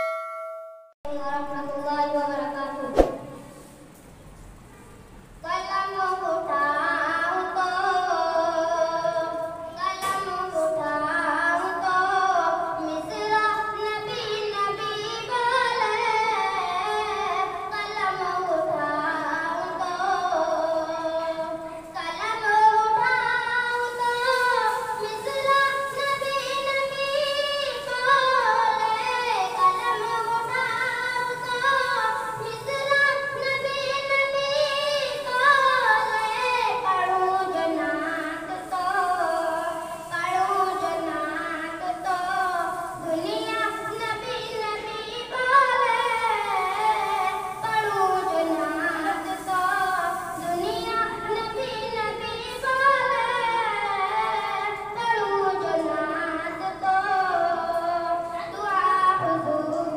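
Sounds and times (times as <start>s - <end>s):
person singing devotional song: 5.4s - 59.9s.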